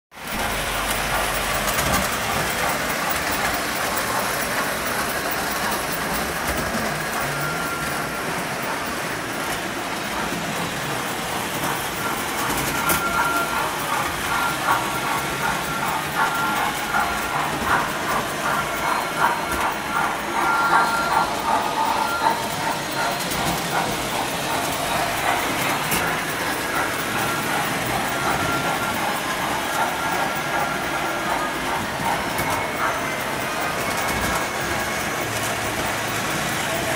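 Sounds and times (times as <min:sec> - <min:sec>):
model train running on track: 0:00.1 - 0:36.9.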